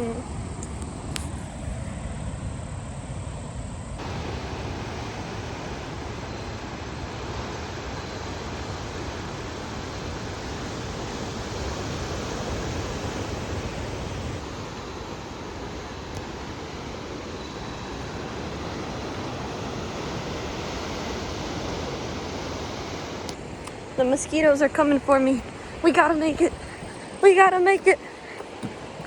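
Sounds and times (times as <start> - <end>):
wind: 0.0 - 29.0
sea surf: 3.9 - 29.0.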